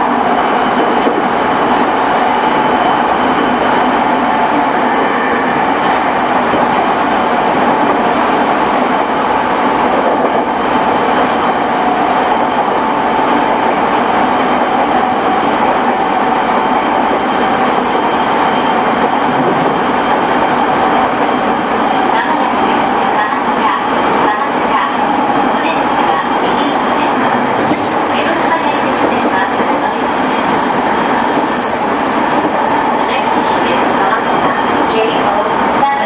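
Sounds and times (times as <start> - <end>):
wheels rumbling on rail: 0.0 - 36.0.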